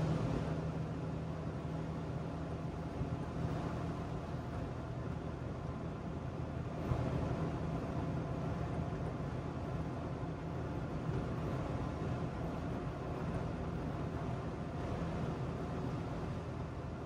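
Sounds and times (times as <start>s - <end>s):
road noise hiss: 0.0s - 17.0s.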